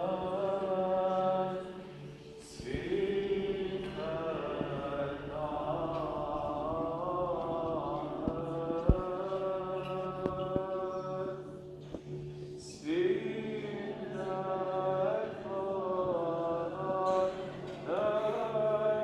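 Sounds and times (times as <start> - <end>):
liturgical chanting: 0.0 - 19.0.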